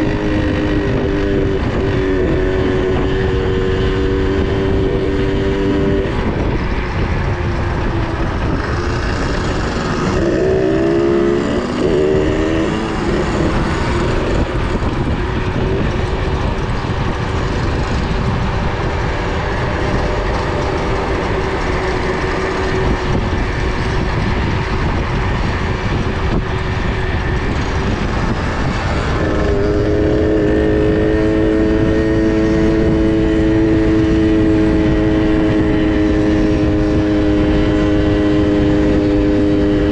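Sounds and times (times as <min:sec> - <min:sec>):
minibike engines running: 0:00.0 - 0:39.9
wind rushing over microphone: 0:00.0 - 0:39.9.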